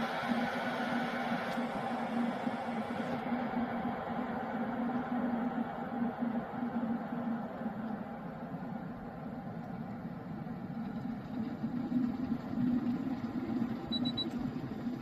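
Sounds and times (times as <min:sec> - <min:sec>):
electric kettle boiling: 0:00.0 - 0:05.6, 0:06.3 - 0:15.0.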